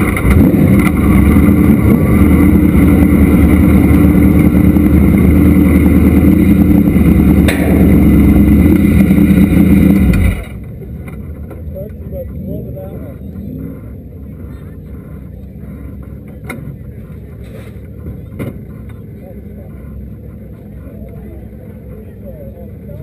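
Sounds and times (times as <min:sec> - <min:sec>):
race car engine running low: 0:00.0 - 0:23.0.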